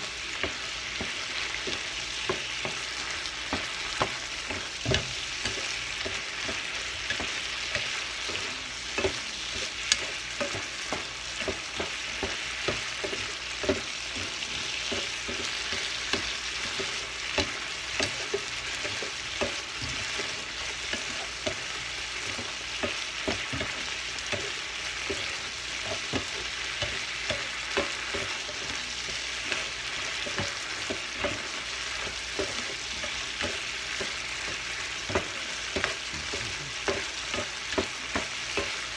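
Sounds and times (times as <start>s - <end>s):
shrimp sizzling in a pan: 0.0s - 38.9s
spatula scraping a pan: 0.0s - 38.9s.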